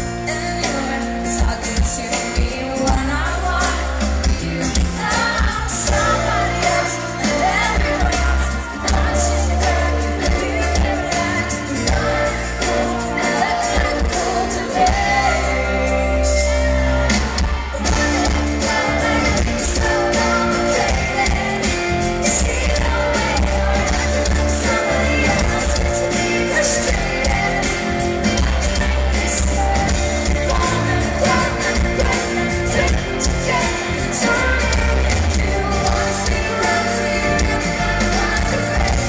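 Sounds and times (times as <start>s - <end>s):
live pop-rock band playing: 0.0s - 39.0s
woman singing: 0.0s - 39.0s.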